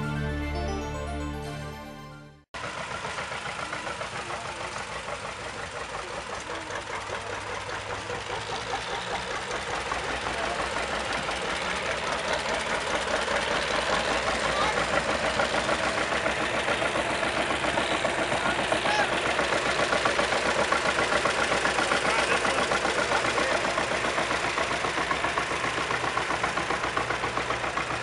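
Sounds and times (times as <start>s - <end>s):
tractor engine pulsing under load: 2.6s - 28.0s.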